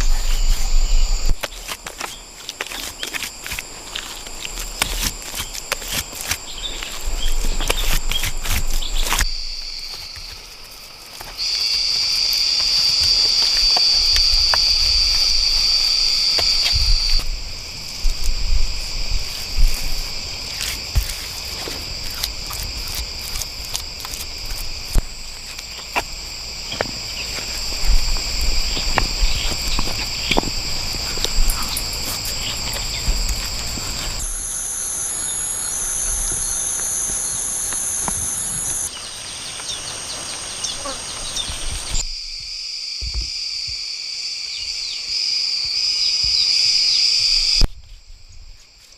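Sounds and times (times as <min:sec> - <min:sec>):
insect chorus buzzing: 0:00.0 - 0:48.9.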